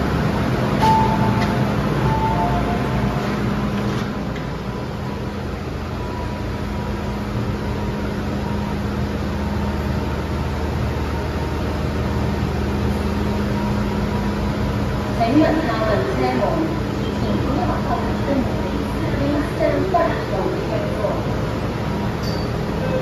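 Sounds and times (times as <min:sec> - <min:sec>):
train carriage air-conditioning hum: 0:00.0 - 0:23.0.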